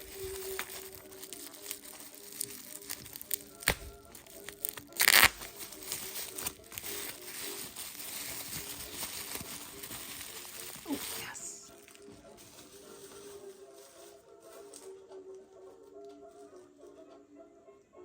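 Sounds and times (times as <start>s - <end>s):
packaging crinkling: 0.0s - 14.9s
soft background music: 0.0s - 18.0s.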